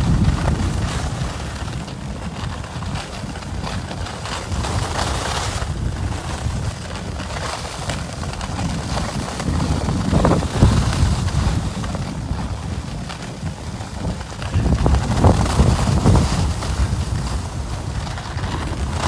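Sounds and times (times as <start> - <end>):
skis hissing over snow: 0.0 - 19.0
wind rumbling on microphone: 0.0 - 19.0.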